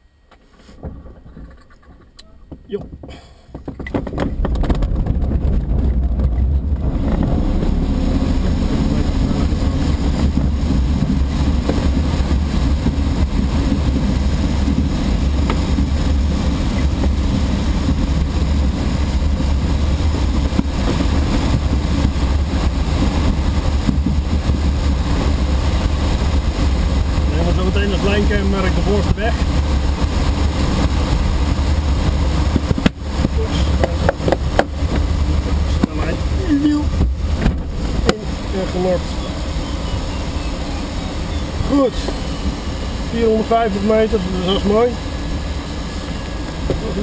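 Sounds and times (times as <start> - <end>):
airflow rushing in cockpit: 0.0 - 47.0
low rumble: 0.0 - 47.0.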